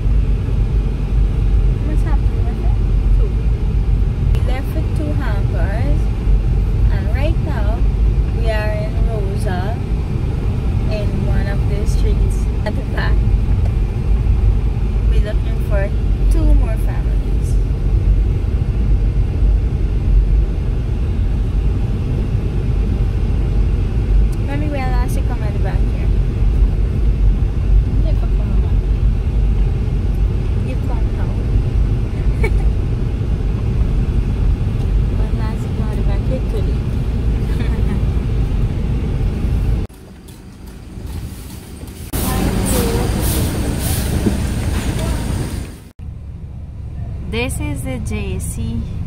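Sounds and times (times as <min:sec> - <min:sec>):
car driving on unpaved road: 0:00.0 - 0:49.0
loud outdoor noise: 0:00.0 - 0:49.0.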